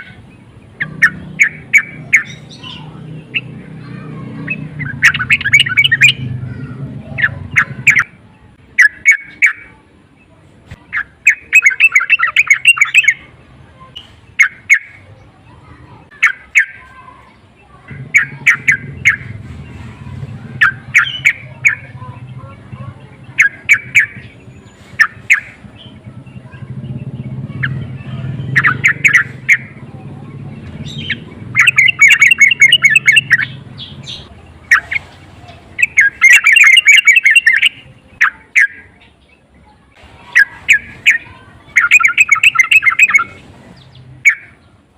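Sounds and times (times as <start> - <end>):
bird chattering calls: 0.0 - 9.9, 10.8 - 39.3, 40.0 - 44.7.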